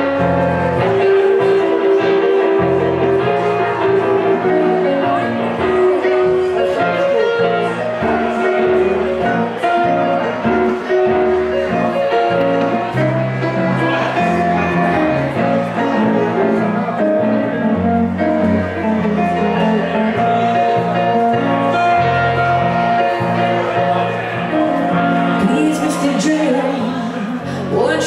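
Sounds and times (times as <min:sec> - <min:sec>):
bass line: 0:00.0 - 0:27.0
electric guitar: 0:00.0 - 0:28.0
keyboard playing: 0:00.0 - 0:28.0.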